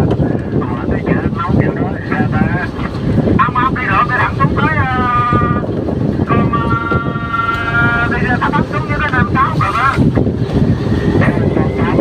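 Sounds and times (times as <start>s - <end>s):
boat engine: 0.0s - 12.0s
wind: 0.0s - 12.0s.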